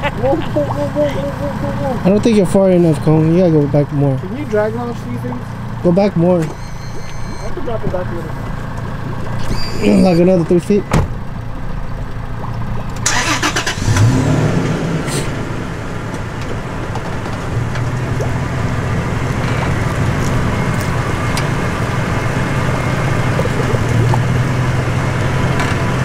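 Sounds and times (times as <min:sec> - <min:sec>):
pickup engine running: 0:00.0 - 0:26.0.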